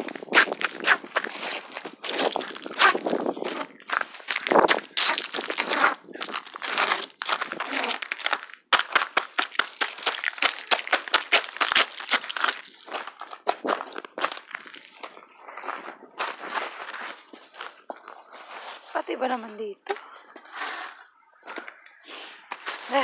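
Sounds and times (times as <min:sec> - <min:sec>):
footsteps crunching on snow: 0:00.0 - 0:19.0, 0:21.4 - 0:23.0.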